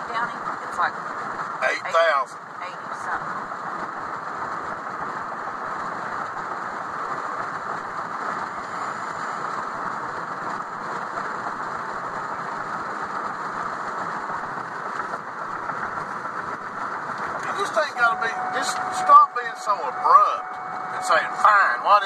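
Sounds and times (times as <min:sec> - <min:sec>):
road and engine noise in vehicle: 0:00.0 - 0:22.0.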